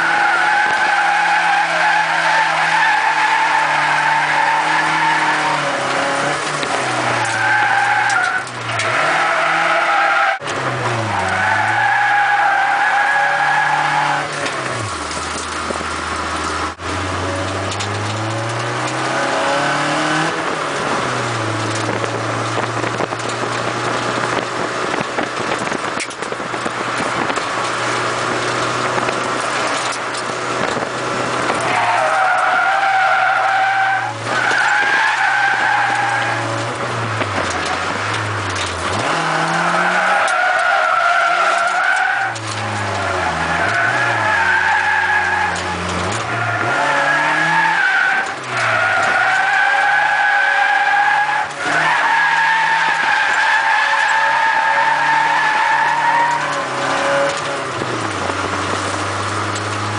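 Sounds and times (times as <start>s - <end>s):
car engine revving: 0.0s - 59.9s
tires squealing: 0.0s - 59.9s.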